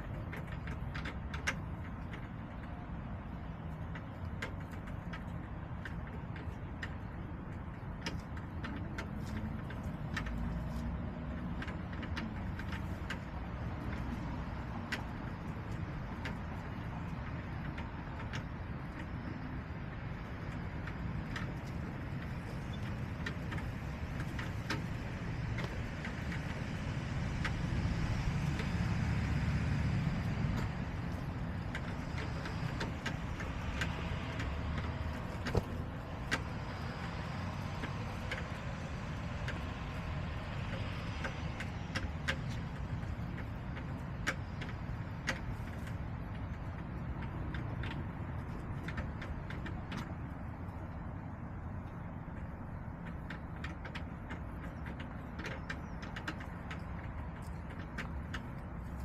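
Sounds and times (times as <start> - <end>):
light ticks and taps: 0.0 - 59.0
road traffic rumble: 0.0 - 59.0
vehicle passing: 2.0 - 59.0.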